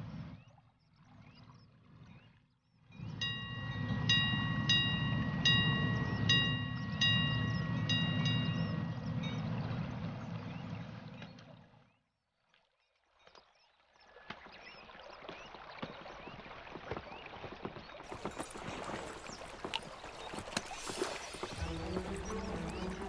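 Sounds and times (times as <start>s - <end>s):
water sounds: 0.0s - 23.0s.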